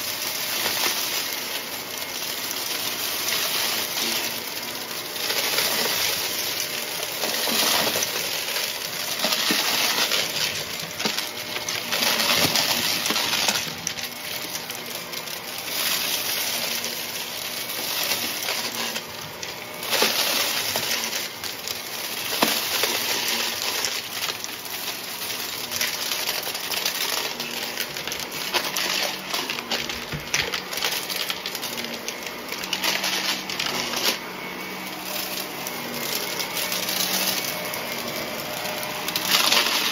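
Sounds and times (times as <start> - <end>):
grit crunching in vacuum: 0.0 - 39.9
vacuum cleaner motor hum: 0.0 - 39.9.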